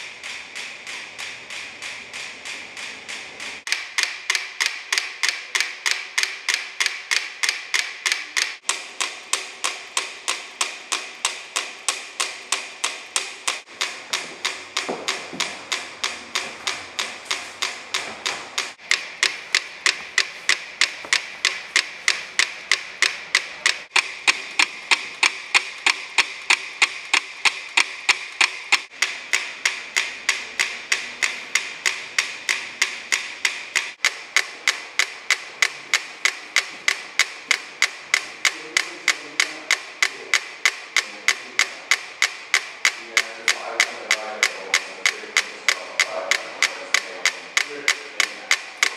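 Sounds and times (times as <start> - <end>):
metronomes ticking: 0.1 - 48.9.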